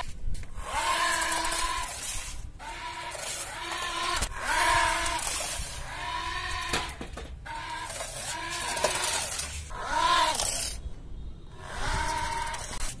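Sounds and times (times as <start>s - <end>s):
animal crying: 0.6s - 10.7s, 11.6s - 12.9s.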